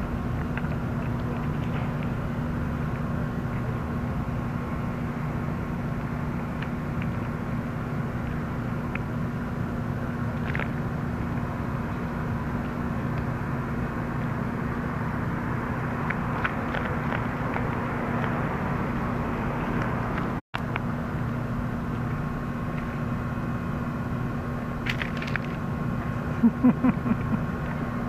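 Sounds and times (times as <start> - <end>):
constant low hum: 0.0 - 28.0.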